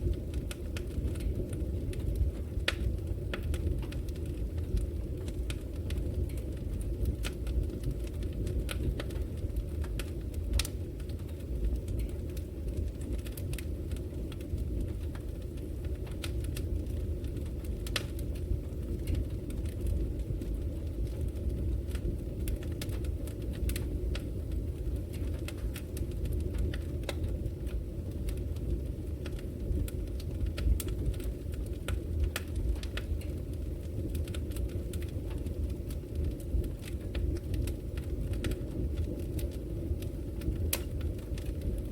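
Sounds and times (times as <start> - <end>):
fire crackling and popping: 0.0 - 41.9
low rumble of fire flames: 0.0 - 41.9.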